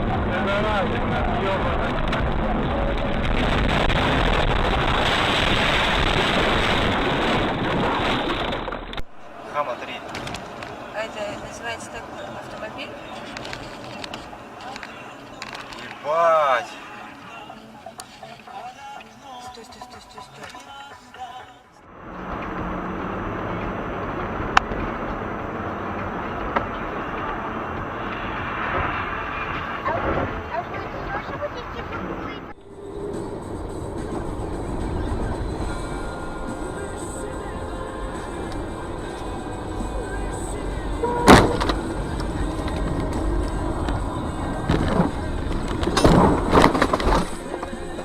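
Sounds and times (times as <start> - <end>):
wind and road noise: 0.0 - 19.3, 21.8 - 48.0.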